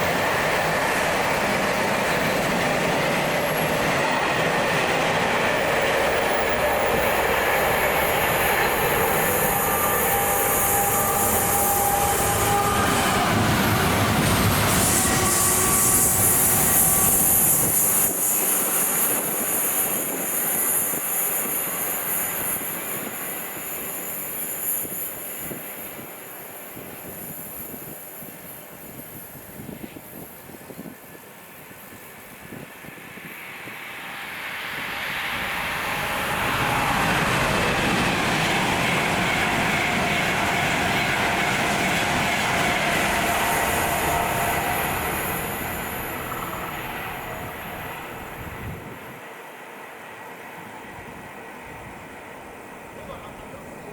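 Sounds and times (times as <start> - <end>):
train running past: 0.0 - 53.9.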